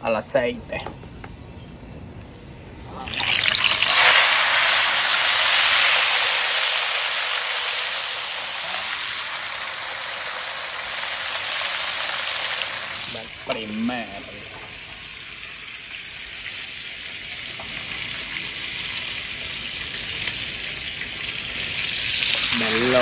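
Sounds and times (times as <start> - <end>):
fish sizzling in hot oil: 3.0 - 23.0.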